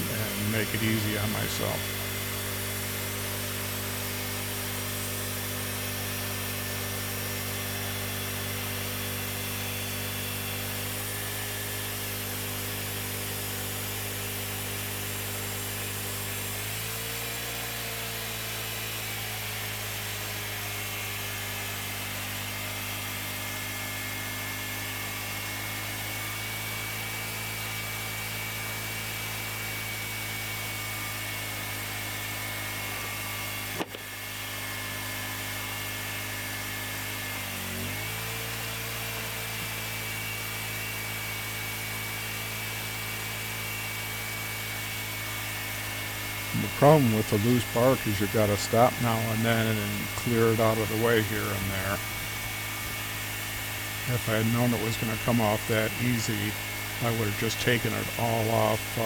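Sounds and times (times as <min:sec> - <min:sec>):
sawmill engine humming: 0:00.0 - 0:59.0.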